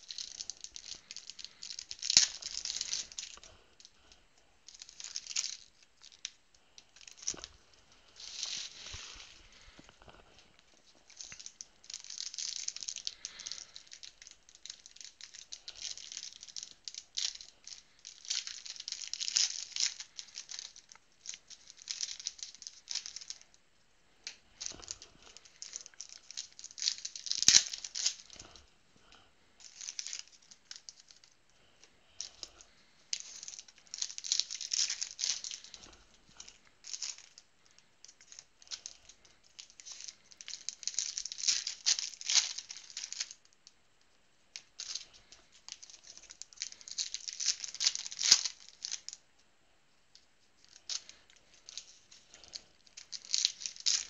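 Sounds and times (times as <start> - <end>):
cards rustling and crinkling: 0.0 - 23.4, 24.2 - 43.5, 44.6 - 49.2, 50.6 - 54.0.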